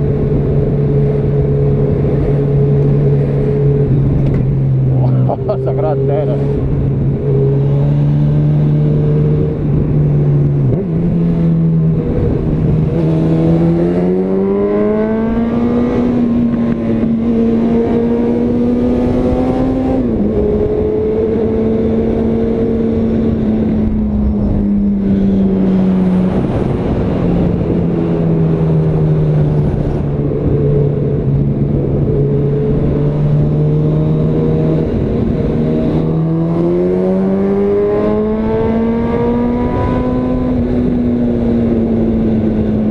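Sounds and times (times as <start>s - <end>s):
motorcycle engine revving: 0.0s - 42.9s
wind noise: 0.0s - 42.9s.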